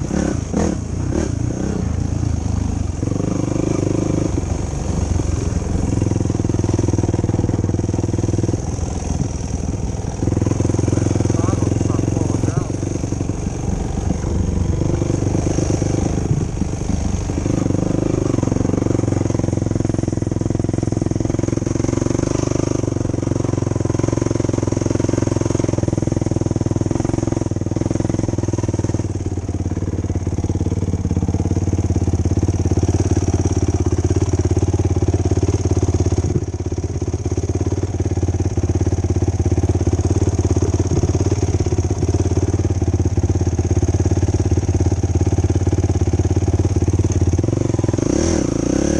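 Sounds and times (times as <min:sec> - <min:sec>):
quad bike engine running: 0:00.0 - 0:48.9.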